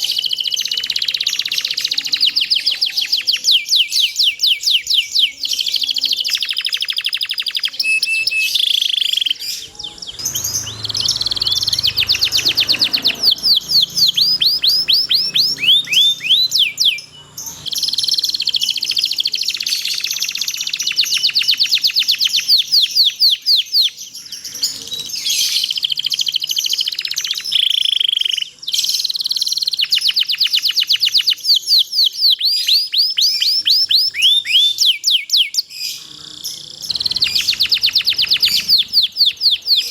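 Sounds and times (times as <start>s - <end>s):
canary trilling: 0.0s - 39.9s.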